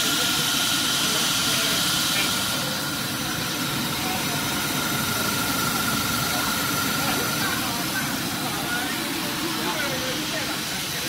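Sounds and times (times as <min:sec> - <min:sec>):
high-pitched machine whine: 0:00.0 - 0:11.0
machine drone with hiss: 0:00.0 - 0:11.0.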